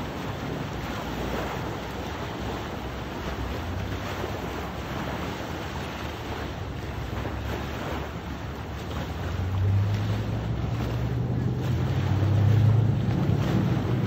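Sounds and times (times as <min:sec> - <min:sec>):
boat engine low drone: 0:00.0 - 0:14.0
waves washing onto sandy shore: 0:00.0 - 0:14.0
wind on microphone: 0:00.0 - 0:14.0.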